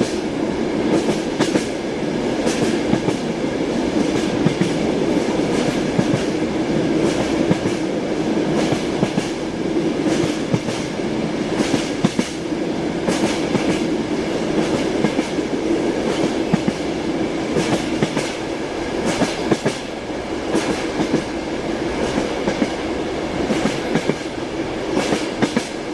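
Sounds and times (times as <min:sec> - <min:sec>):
train carriage rumble: 0:00.0 - 0:25.9
train wheels clickety-clack: 0:00.0 - 0:25.9.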